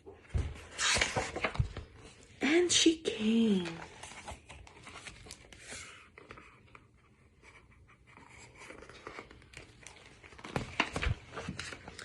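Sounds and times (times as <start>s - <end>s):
paper pages rustling: 0.2s - 2.3s, 3.4s - 12.0s.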